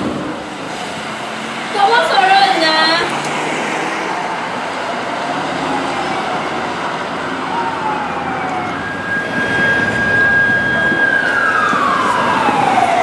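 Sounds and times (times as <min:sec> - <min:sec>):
fire truck siren: 0:00.0 - 0:13.0
road and engine noise: 0:00.0 - 0:13.0.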